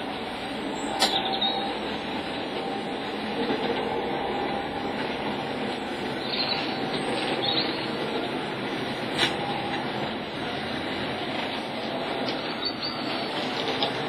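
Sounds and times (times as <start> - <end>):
model train hum and rattle: 0.0 - 14.0.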